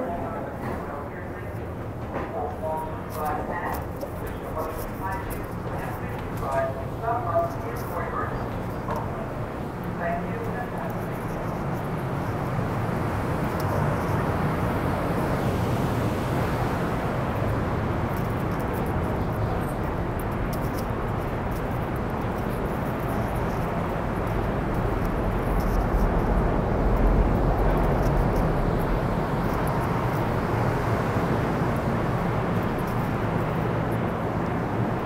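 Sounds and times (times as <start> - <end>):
train humming and rumbling: 0.0 - 35.0.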